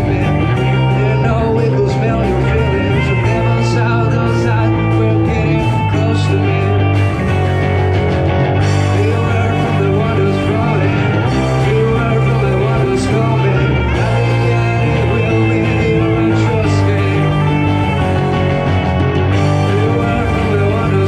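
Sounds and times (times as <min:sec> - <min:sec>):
person singing: 0:00.0 - 0:07.5, 0:08.6 - 0:21.0
bass guitar: 0:00.0 - 0:21.0
drums: 0:00.0 - 0:21.0
electric guitar: 0:00.0 - 0:21.0.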